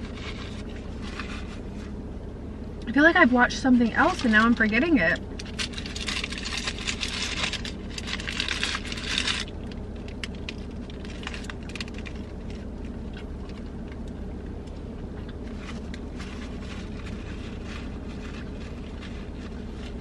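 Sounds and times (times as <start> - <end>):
paper wrapper crinkling: 0.0 - 1.9, 3.9 - 14.0, 15.3 - 20.0
low steady hum: 0.0 - 20.0.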